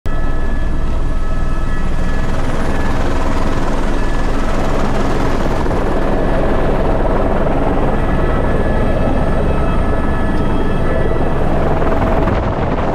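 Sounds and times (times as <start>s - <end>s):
helicopter rotor and engine din: 0.1s - 12.9s
whining tones: 0.1s - 12.9s.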